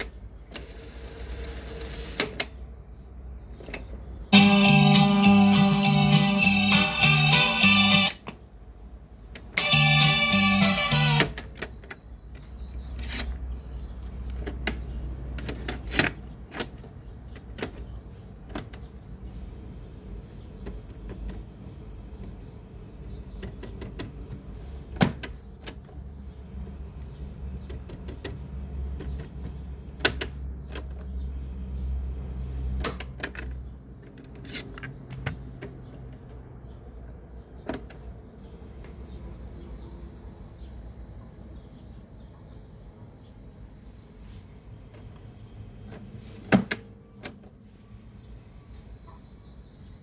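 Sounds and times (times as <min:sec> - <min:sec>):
steady low hum: 0:00.0 - 0:15.0, 0:18.0 - 0:33.0, 0:36.8 - 0:50.0.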